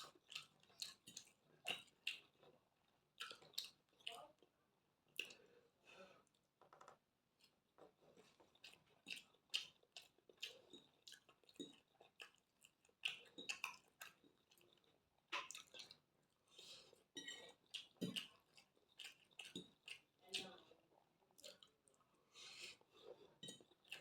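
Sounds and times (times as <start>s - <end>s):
person chewing food: 0.0s - 4.5s, 5.1s - 6.5s, 7.4s - 24.0s.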